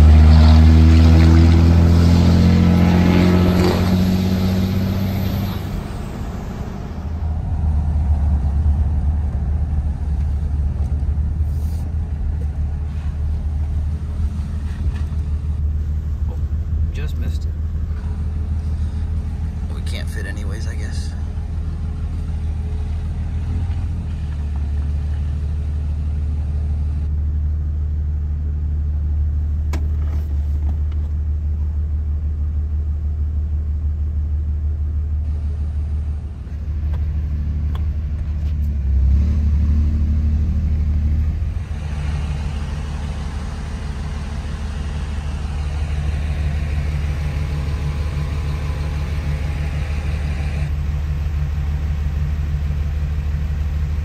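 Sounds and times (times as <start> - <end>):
diesel truck engine rumble: 0.0 - 54.0.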